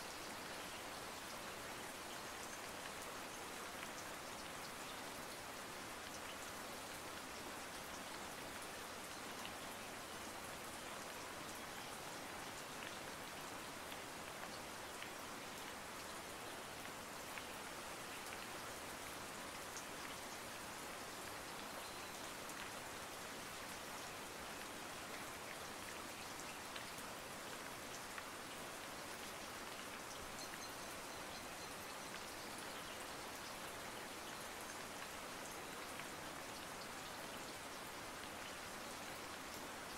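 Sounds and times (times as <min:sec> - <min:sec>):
steady rain-like hiss: 0:00.0 - 0:39.9.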